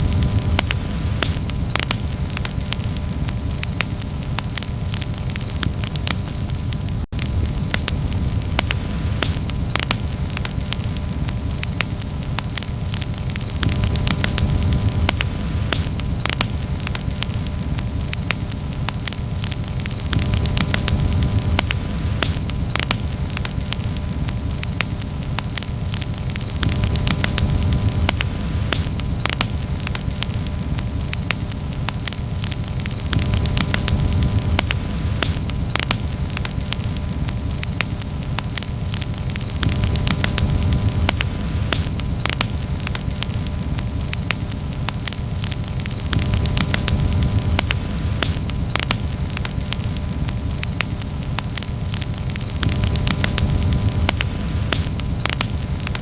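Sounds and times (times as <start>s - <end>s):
campfire crackling and popping: 0.0s - 56.0s
low rumble of fire: 0.0s - 56.0s.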